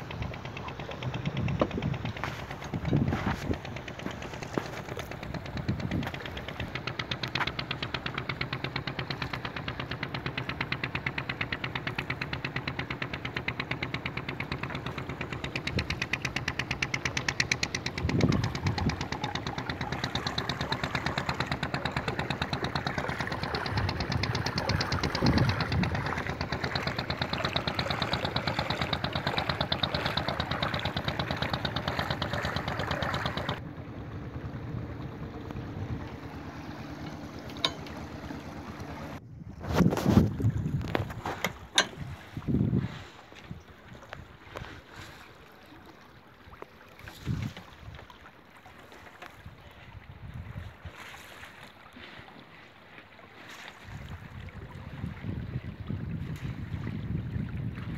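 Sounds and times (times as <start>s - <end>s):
boat engine running: 0.0s - 57.9s.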